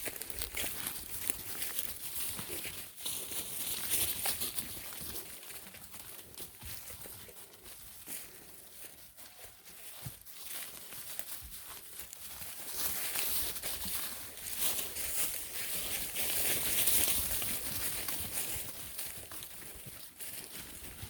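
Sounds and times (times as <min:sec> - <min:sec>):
footsteps through dry leaves: 0:00.0 - 0:21.0.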